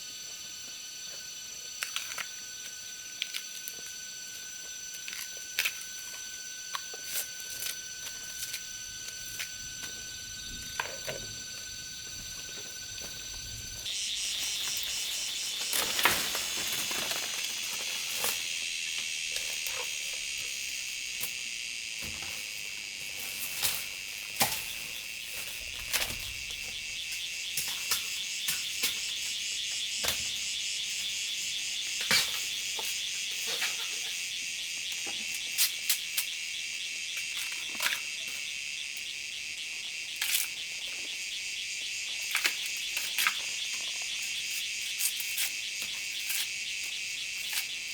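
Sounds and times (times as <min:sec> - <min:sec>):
forest insects droning: 0:00.0 - 0:47.9.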